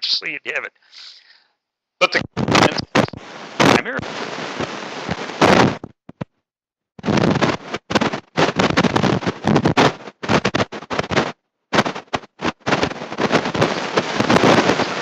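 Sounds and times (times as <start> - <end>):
harsh crackling distorted noise: 2.0 - 6.4, 7.0 - 15.0.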